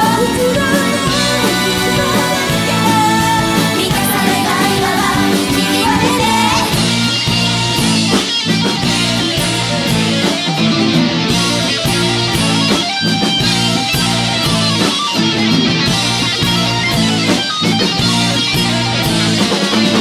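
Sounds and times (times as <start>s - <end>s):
electric guitar: 0.0s - 20.0s
live rock band playing: 0.0s - 20.0s.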